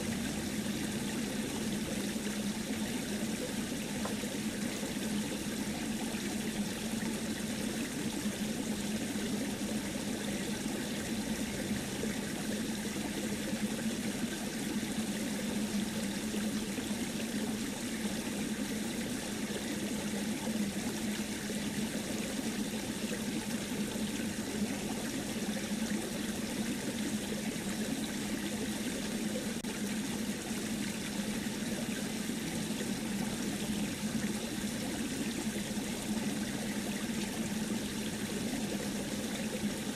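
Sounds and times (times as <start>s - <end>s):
trickling running water: 0.0s - 39.9s.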